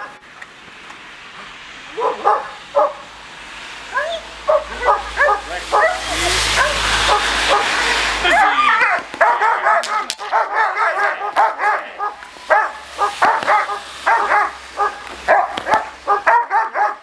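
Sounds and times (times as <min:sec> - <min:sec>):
dog barking rapidly: 0:02.0 - 0:03.1, 0:04.4 - 0:17.0.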